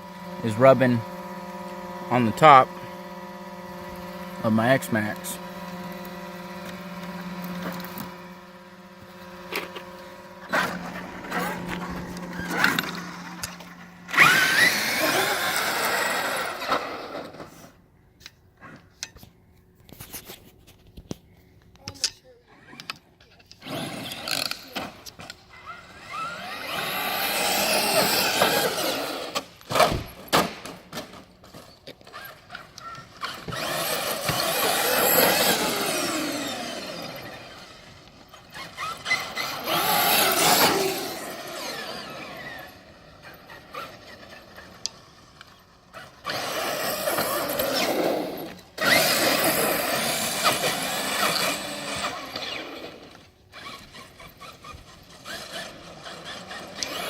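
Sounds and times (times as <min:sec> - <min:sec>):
electric toy truck motor whining: 0:00.0 - 0:17.8, 0:22.6 - 0:30.3, 0:31.1 - 0:57.0.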